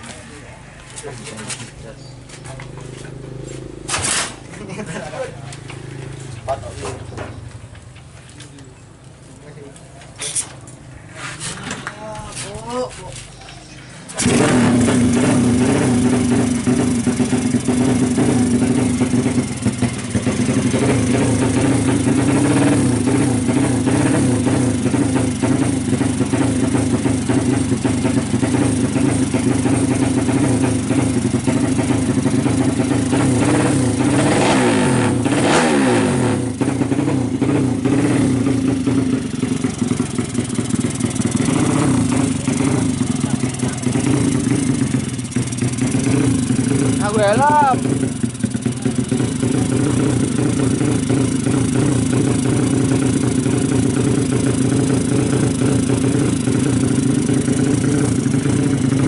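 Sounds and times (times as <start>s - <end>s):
motorcycle engine revving: 0.0s - 8.7s, 14.0s - 59.0s.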